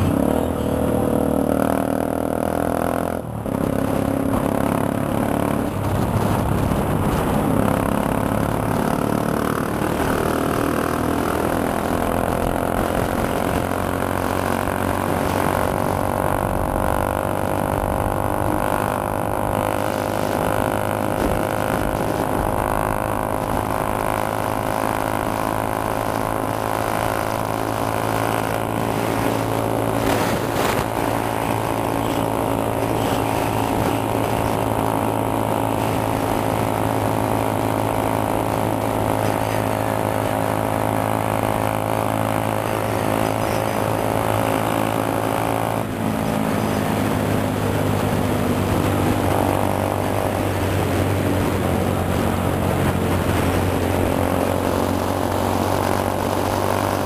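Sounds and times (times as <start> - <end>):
motorcycle engine at speed: 0.0 - 57.0
wind noise: 3.2 - 57.0.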